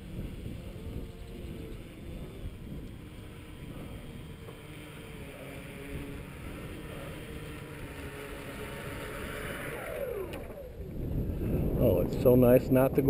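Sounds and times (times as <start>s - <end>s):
small electric motor running: 0.0s - 13.0s
wind rumble on microphone: 0.0s - 13.0s.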